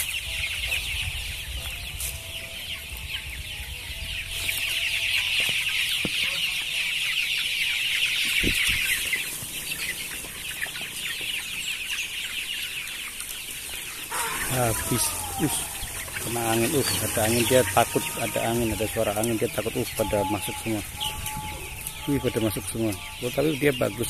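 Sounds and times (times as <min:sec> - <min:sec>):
chickens peeping and clucking: 0:00.0 - 0:24.0.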